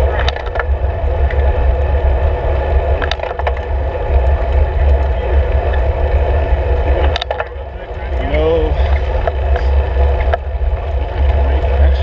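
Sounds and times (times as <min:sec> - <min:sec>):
sharp clicks and rattles: 0:00.0 - 0:12.0
wind buffeting microphone: 0:00.0 - 0:12.0.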